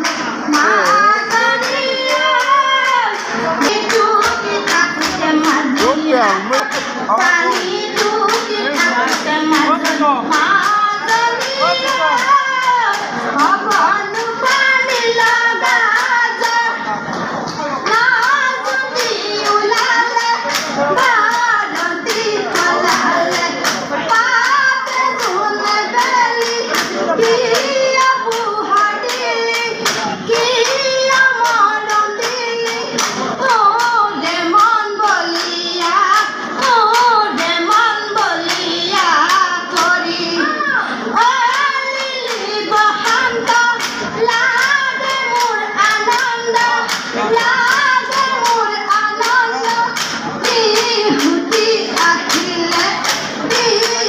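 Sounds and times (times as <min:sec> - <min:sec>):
hand claps: 0:00.0 - 0:38.7, 0:41.2 - 0:54.0
women singing together: 0:00.0 - 0:54.0.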